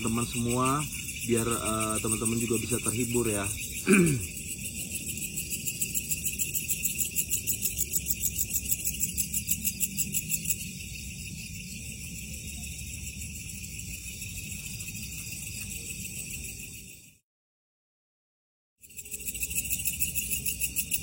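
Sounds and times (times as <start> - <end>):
insects chirping: 0.0 - 17.2, 18.8 - 21.0.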